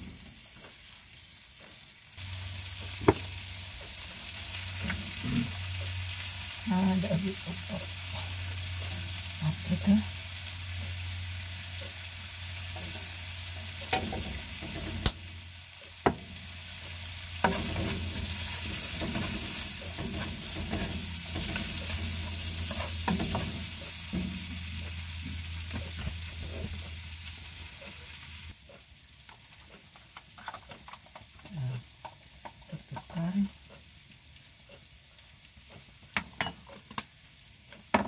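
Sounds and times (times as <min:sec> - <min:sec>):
onion sizzling in a wok: 0:00.0 - 0:38.0.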